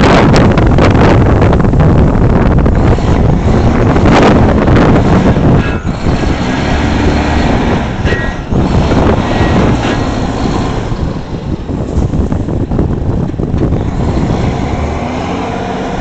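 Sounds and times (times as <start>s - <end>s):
truck engine rumbling: 0.0s - 16.0s
wind buffeting microphone: 0.0s - 16.0s.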